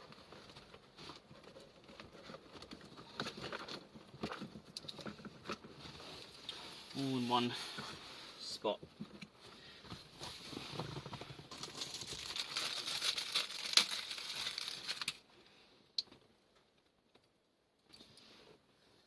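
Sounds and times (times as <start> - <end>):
wiring and plastic rustling: 0.0 - 15.3.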